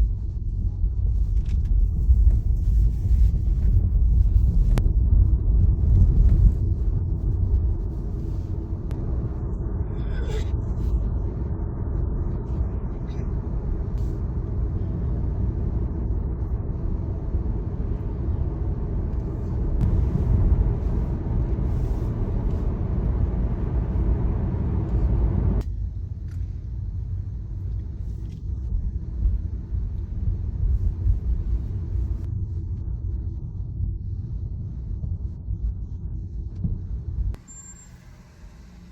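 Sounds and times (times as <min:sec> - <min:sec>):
tyre and road rumble: 0:01.0 - 0:32.3.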